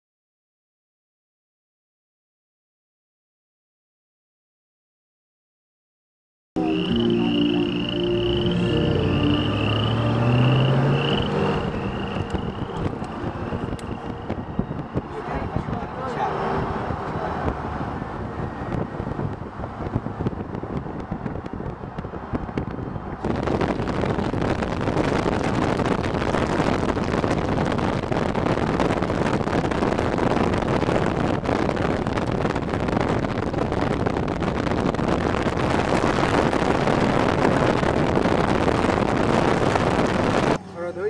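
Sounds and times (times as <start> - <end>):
car road and wind noise: 6.6 - 41.0.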